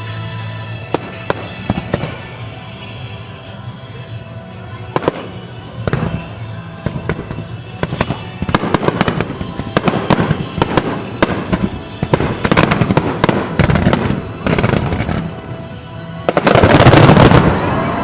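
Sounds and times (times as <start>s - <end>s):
music: 0.0s - 18.0s
fireworks bangs and crackles: 0.1s - 3.2s, 4.8s - 18.0s.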